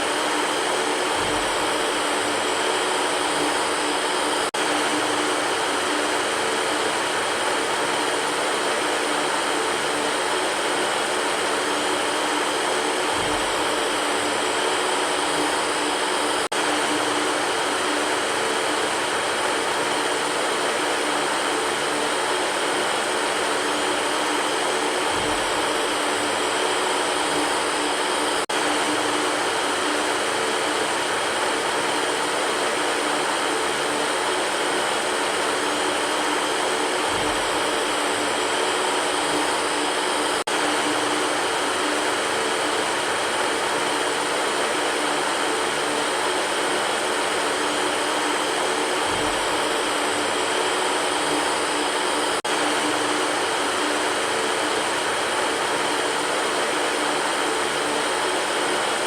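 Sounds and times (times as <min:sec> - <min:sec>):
electric fan whooshing: 0:00.0 - 0:59.0.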